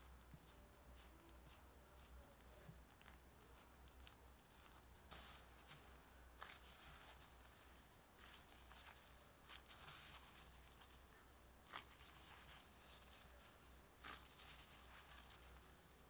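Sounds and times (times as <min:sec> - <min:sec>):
gloved hand squishing dough: 0:00.0 - 0:16.0.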